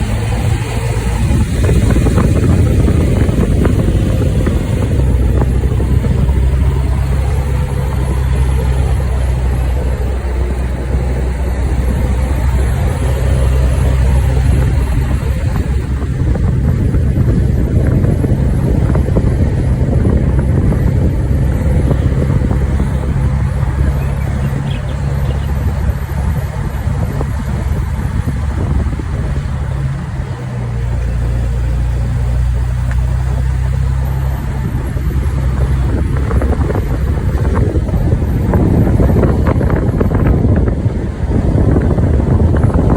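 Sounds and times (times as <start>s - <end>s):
vehicle rumble and road noise: 0.0s - 42.9s.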